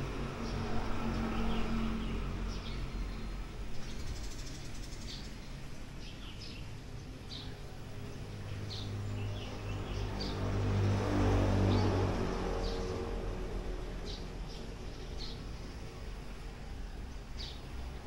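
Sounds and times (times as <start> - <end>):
small birds chirping: 0.0 - 10.6, 13.8 - 18.0.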